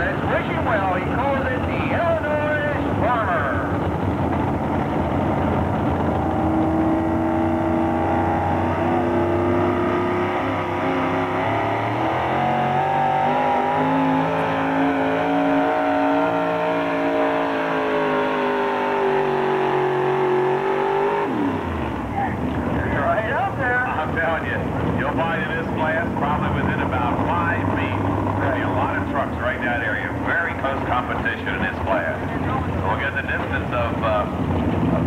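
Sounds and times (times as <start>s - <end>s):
supercharged truck engine at full throttle: 0.0s - 35.0s.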